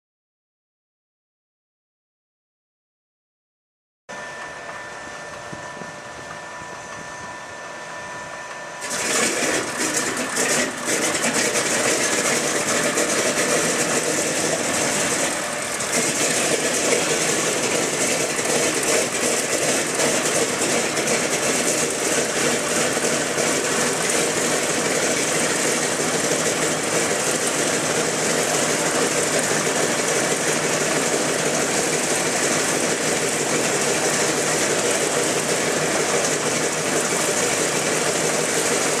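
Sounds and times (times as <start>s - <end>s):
radial engine starting and running: 4.1s - 39.0s
starter whine: 4.1s - 39.0s.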